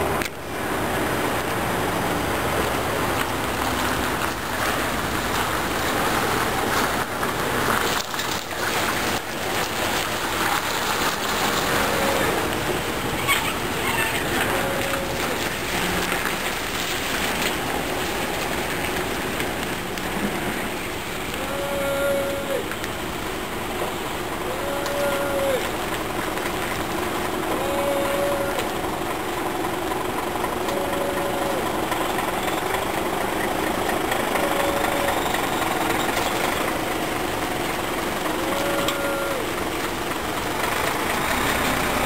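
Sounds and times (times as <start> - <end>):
truck engine running: 0.0 - 42.0.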